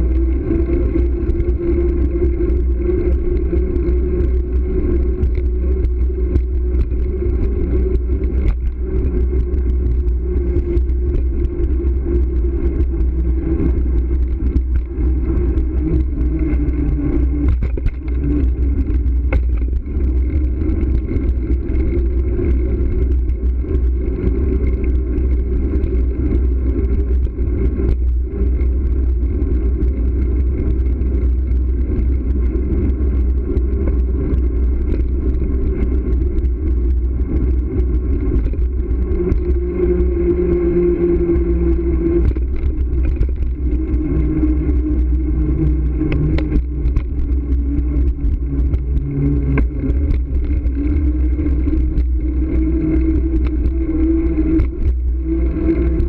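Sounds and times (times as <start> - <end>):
bicycle tyres on road: 0.0 - 56.0
faint shifting hums: 0.0 - 56.0
wind rumble on microphone: 0.0 - 56.0.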